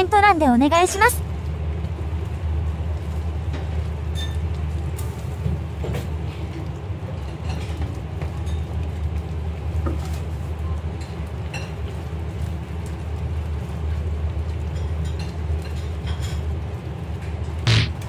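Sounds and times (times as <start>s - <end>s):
water boiling rumble: 1.2s - 18.0s.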